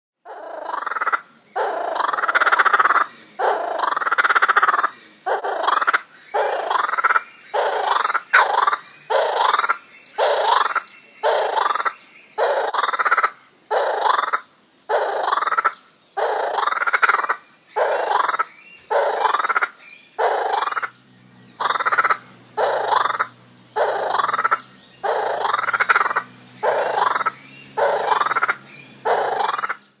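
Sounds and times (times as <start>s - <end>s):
kookaburra calling: 0.2s - 30.0s.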